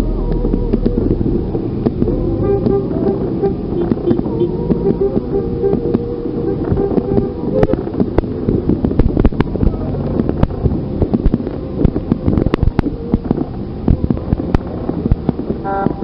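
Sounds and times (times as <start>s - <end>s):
heavy low rumble: 0.0s - 16.0s
wind buffeting microphone: 0.0s - 16.0s
sharp clicks and knocks: 0.3s - 16.0s.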